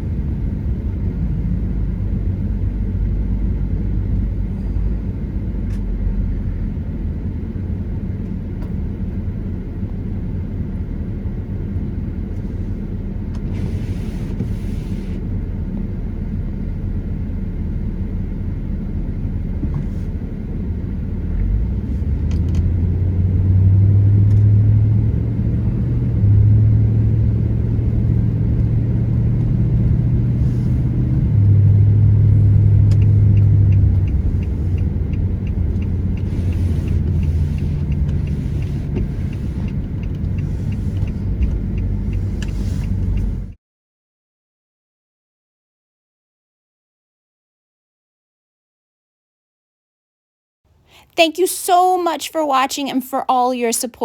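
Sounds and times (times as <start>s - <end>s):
car interior road rumble: 0.0s - 43.6s.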